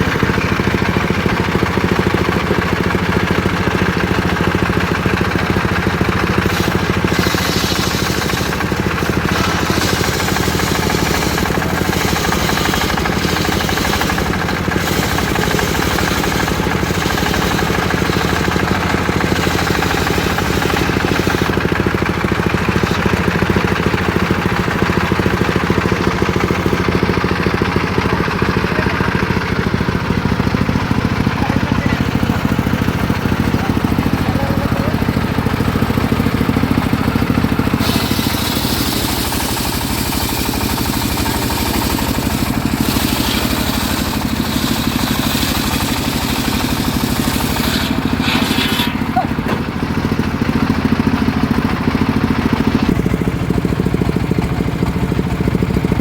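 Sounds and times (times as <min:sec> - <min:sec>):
engine running with fast pulse: 0:00.0 - 0:56.0.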